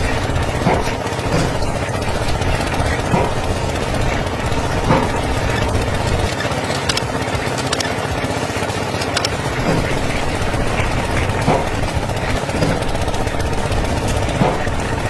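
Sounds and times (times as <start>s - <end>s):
small motor rattling: 0.0s - 15.0s.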